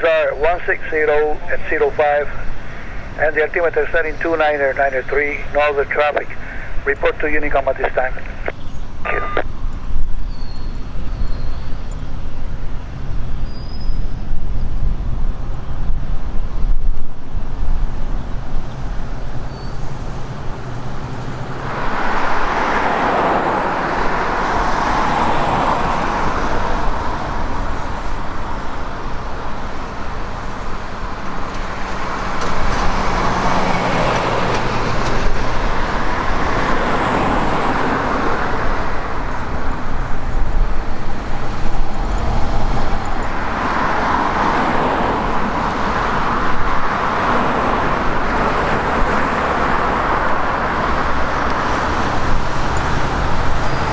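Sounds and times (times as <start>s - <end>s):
jet engines roaring: 0.0s - 10.2s, 17.5s - 53.9s.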